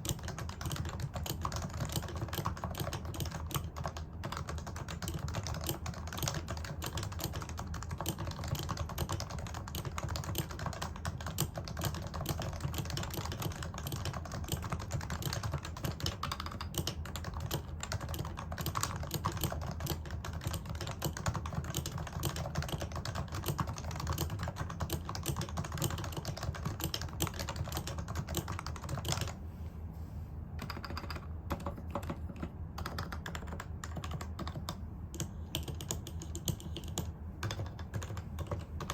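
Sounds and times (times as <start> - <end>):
fast muted keyboard typing: 0.0 - 29.4, 30.6 - 38.9.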